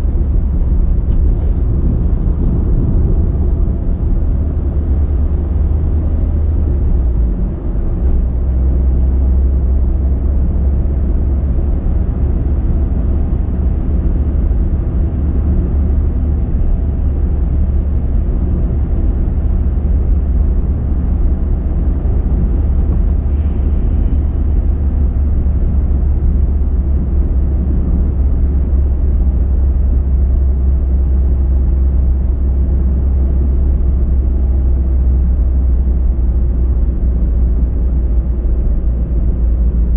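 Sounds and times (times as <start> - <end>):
car driving: 0.0 - 39.9.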